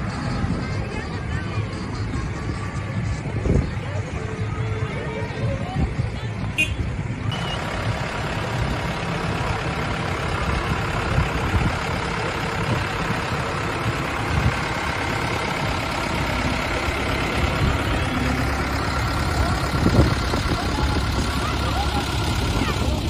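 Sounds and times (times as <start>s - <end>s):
heavy vehicle engine running: 0.0s - 23.0s
street noise: 0.0s - 23.0s.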